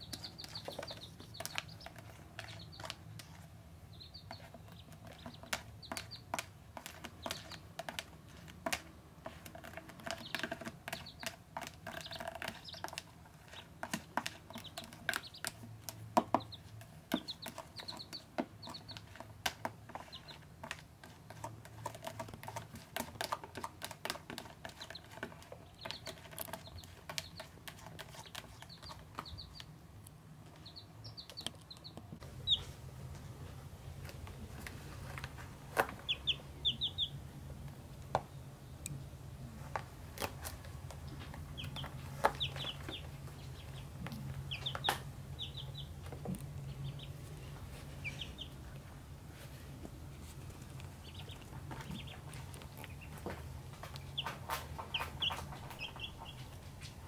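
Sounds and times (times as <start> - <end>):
duckling and chick peeping: 0.0 - 8.1, 9.5 - 20.6, 22.0 - 29.8, 30.4 - 32.8, 35.2 - 37.4, 39.6 - 49.0, 49.8 - 57.0.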